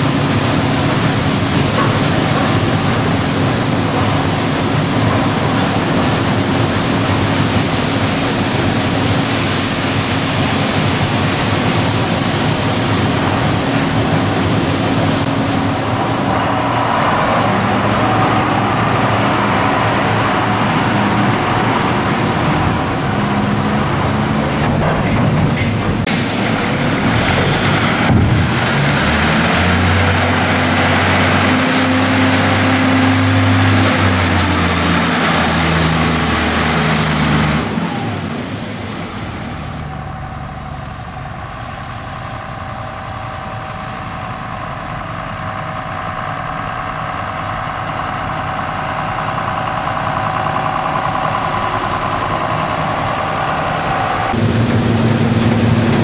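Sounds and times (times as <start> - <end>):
machinery engine drone: 0.0 - 56.0
tractor engine running: 0.0 - 56.0.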